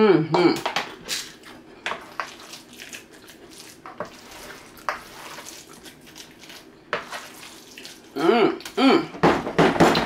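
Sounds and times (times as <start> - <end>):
wooden spoon stirring wet food: 0.6 - 8.8.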